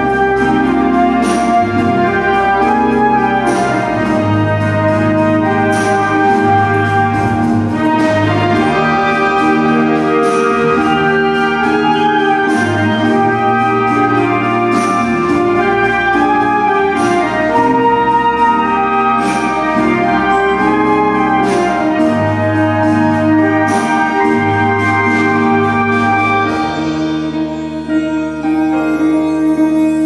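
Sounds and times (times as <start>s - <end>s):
bass guitar: 0.0s - 30.0s
clarinet orchestra playing: 0.0s - 30.0s
drums: 0.0s - 30.0s
electric guitar: 0.0s - 30.0s.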